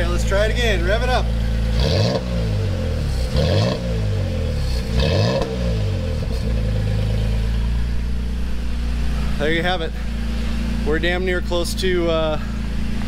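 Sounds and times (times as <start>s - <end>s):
truck exhaust revving and idling: 0.0s - 13.0s.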